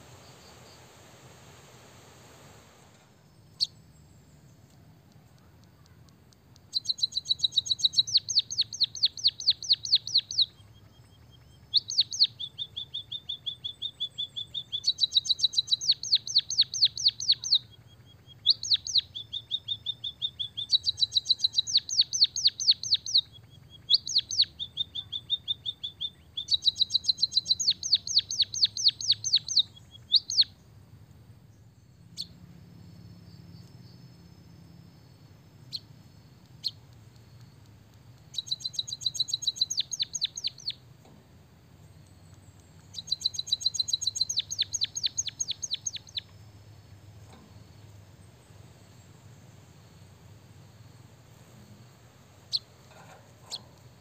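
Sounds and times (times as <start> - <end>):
bird trilling chirps: 3.2 - 30.7, 31.5 - 41.0, 41.8 - 54.0.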